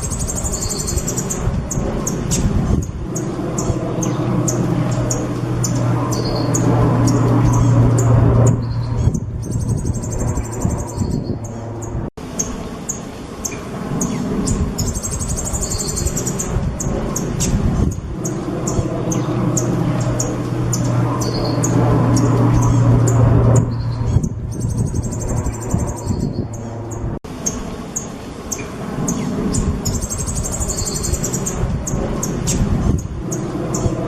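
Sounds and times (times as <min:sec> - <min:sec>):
songbird singing with trills: 0:00.0 - 0:34.0
steady low hum: 0:00.0 - 0:34.0.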